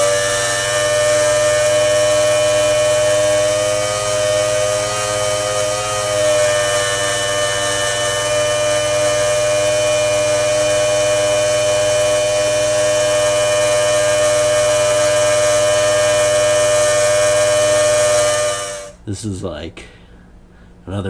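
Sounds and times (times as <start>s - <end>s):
electric pump whining: 0.0s - 19.0s.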